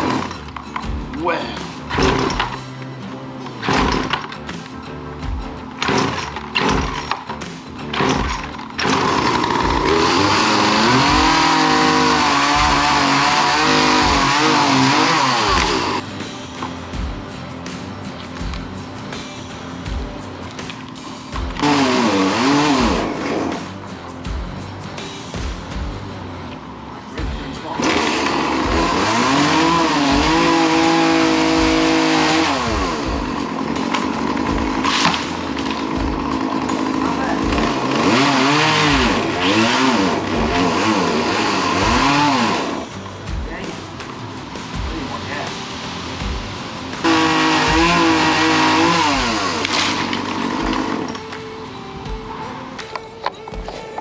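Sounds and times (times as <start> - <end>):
chainsaw cutting: 0.0 - 2.7, 3.6 - 4.7, 5.6 - 17.1, 19.8 - 24.2, 27.2 - 51.4
background music with steady beat: 0.0 - 54.0.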